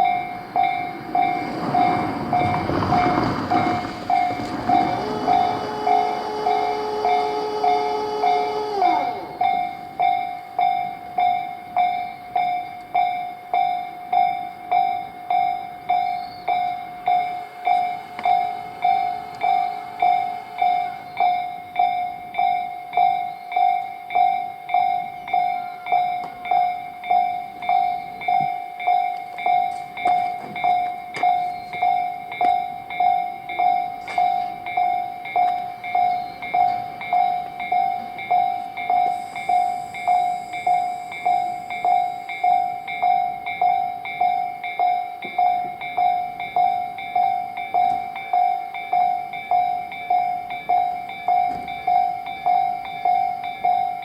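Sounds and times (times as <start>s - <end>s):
level-crossing warning bell: 0.0s - 54.0s
train running over crossing: 0.0s - 54.0s.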